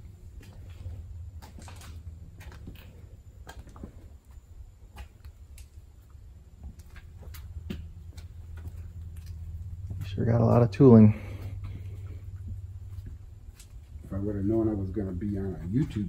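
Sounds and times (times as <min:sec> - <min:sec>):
shop interior hum: 0:00.0 - 0:16.0.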